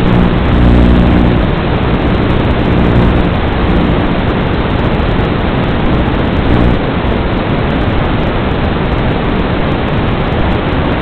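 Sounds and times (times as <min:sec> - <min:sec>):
loud static hiss: 0:00.0 - 0:11.0.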